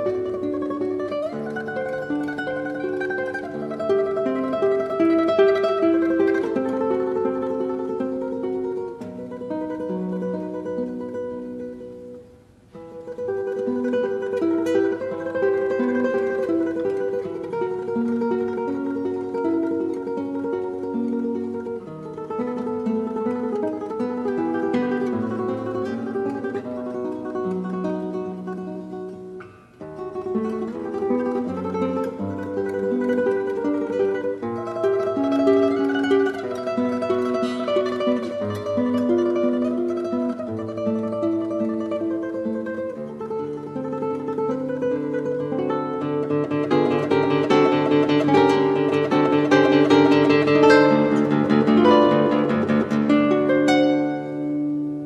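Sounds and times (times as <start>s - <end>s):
classical guitar fingerpicked: 0.0s - 55.0s.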